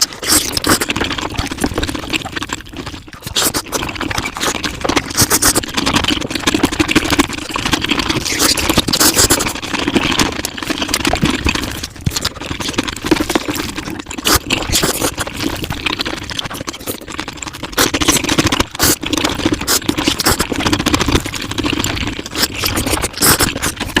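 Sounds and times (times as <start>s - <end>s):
sped-up chewing and mouth noises: 0.0s - 24.0s.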